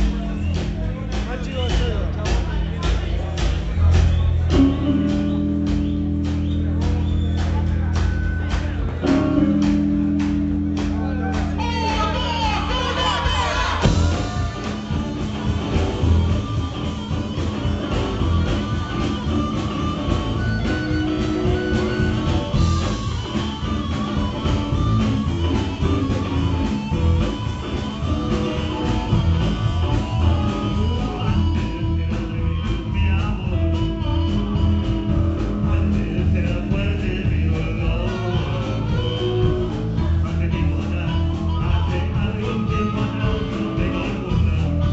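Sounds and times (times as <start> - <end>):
blues-rock band playing: 0.0 - 44.9
guitar: 0.0 - 44.9.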